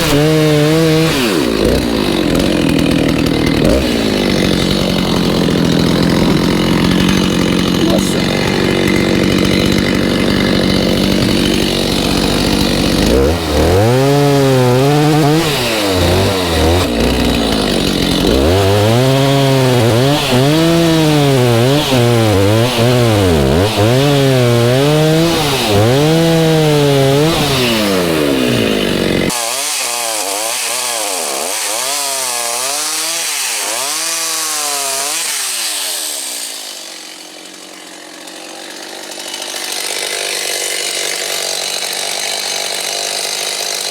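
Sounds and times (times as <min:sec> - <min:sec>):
chainsaw cutting log: 0:00.0 - 0:43.9.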